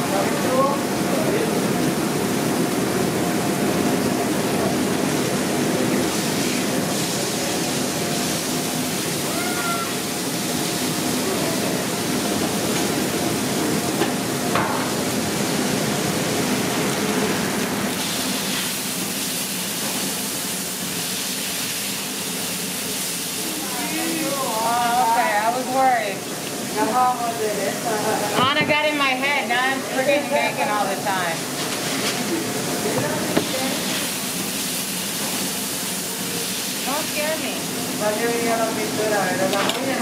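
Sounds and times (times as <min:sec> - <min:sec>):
kitchen ventilation rushing: 0:00.0 - 0:40.0.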